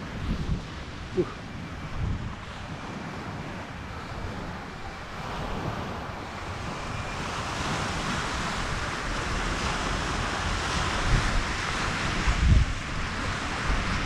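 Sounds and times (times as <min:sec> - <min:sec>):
rushing wind and water: 0:00.0 - 0:14.0
wind buffeting microphone: 0:00.0 - 0:14.0.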